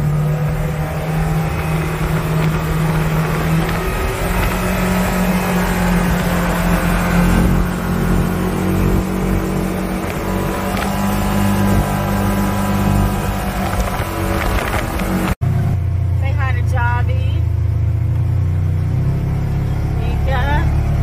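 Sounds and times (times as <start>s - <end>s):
utility vehicle engine running: 0.0s - 21.0s
wind and road noise: 0.0s - 21.0s.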